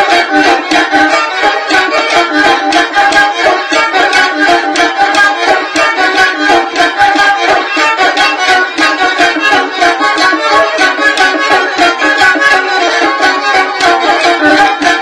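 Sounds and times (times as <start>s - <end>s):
bowed fiddle folk melody: 0.0s - 15.0s.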